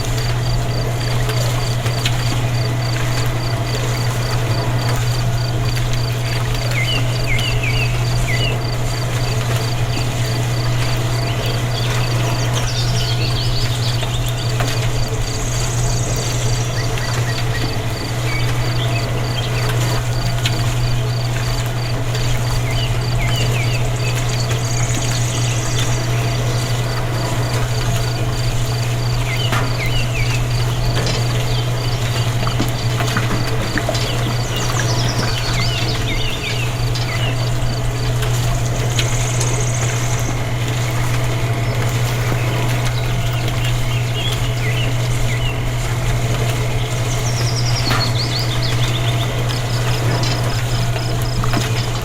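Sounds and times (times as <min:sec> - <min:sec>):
insect chirping in pulses: 0:00.0 - 0:45.5
loud steady low hum: 0:00.0 - 0:52.0.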